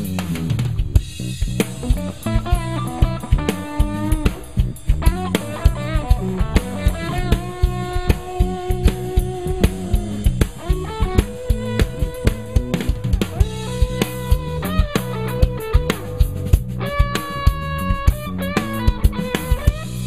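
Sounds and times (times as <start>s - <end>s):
drum kit playing: 0.0s - 20.0s
electric bass playing: 0.0s - 20.0s.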